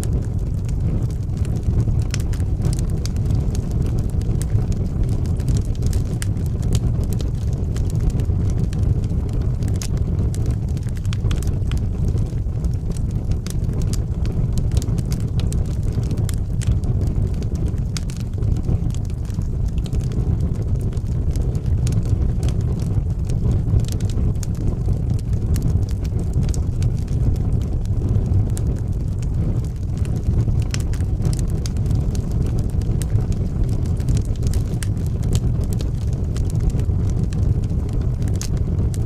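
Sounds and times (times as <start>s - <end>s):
fire crackling and popping: 0.0s - 39.0s
rumble of flames: 0.0s - 39.0s.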